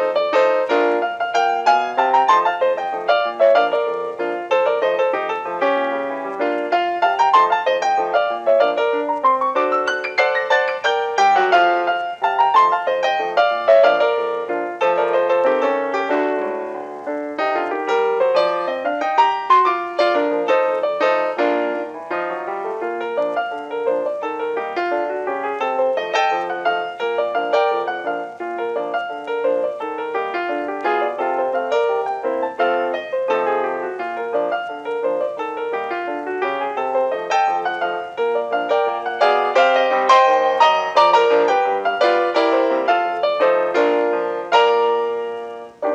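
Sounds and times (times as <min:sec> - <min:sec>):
lively solo piano: 0:00.0 - 0:45.9.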